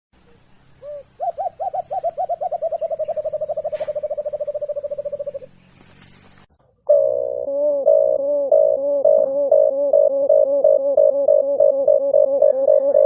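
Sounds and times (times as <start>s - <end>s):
dove hooting: 0.8s - 5.8s, 6.9s - 13.0s.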